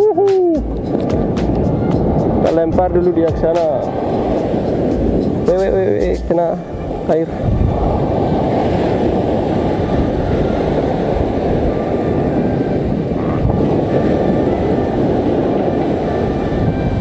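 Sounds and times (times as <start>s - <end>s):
heavy surf breaking: 0.0s - 17.0s.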